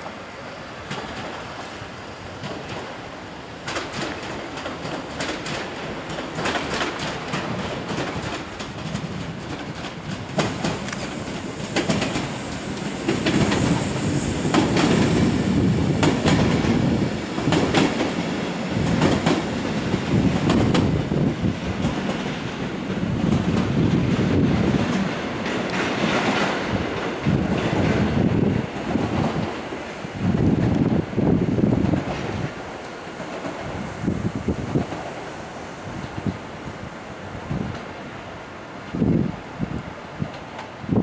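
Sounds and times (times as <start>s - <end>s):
train rumbling: 0.0s - 41.0s
wheels clicking over rail joints: 2.4s - 35.2s.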